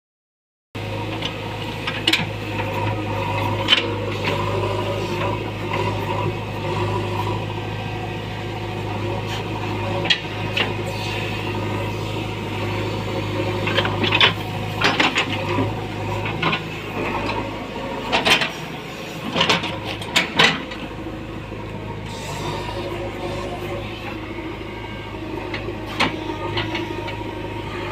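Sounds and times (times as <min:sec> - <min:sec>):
diesel engine running: 0:00.8 - 0:27.9.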